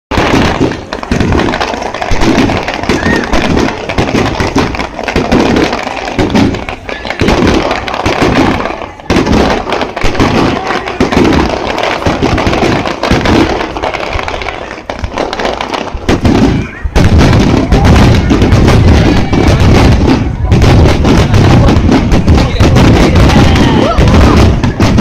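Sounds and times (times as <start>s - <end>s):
fireworks booming and crackling: 0.1s - 25.0s.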